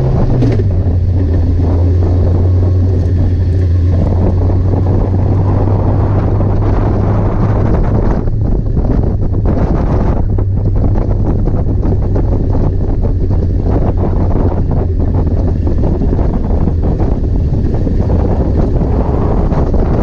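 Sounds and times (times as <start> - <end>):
car engine running: 0.0 - 20.0
wind buffeting microphone: 0.0 - 20.0.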